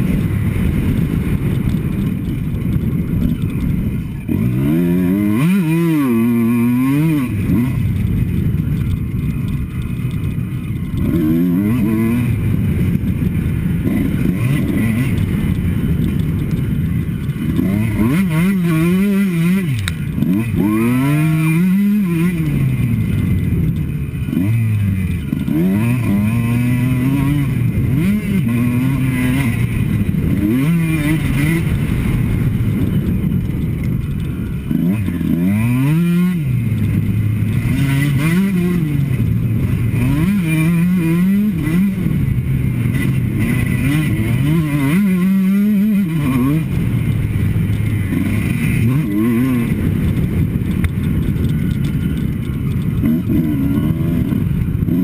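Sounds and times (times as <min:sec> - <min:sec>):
motocross bike engine revving: 0:00.0 - 0:55.0
wind rush: 0:00.0 - 0:55.0.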